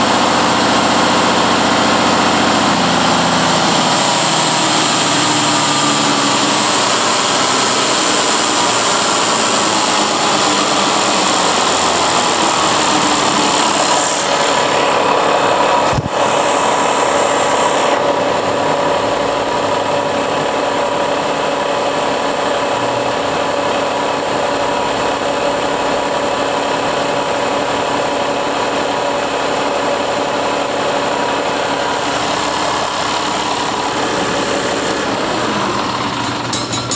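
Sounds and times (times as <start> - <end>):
diesel engine idling: 0.0 - 27.9, 29.7 - 36.9
high whine: 0.0 - 36.9.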